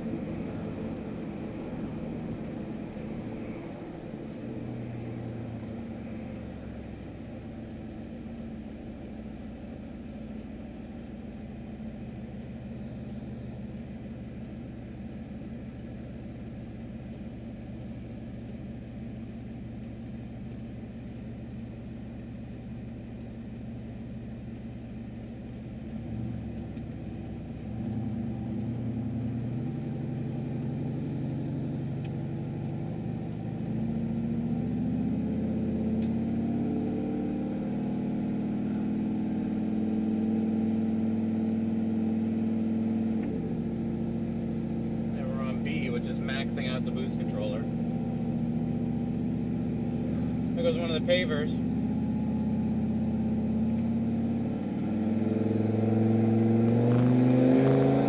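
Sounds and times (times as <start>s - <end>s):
truck engine idling and accelerating: 0.0s - 58.0s.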